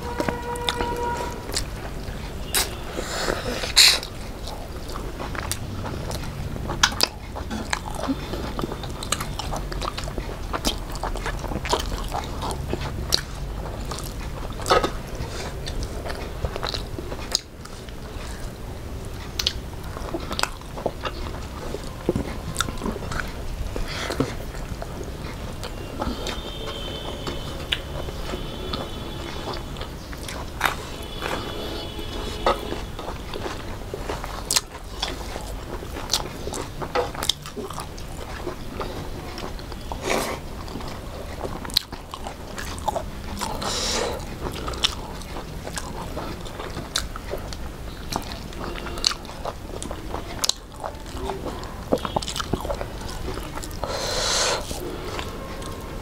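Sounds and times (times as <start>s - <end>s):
chewing with wet mouth smacks: 0.0s - 56.0s.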